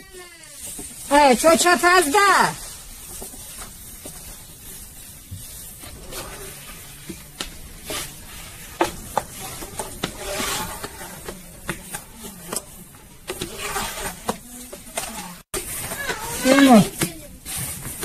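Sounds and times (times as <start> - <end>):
rolling pin rolling over dough: 0.0 - 18.0.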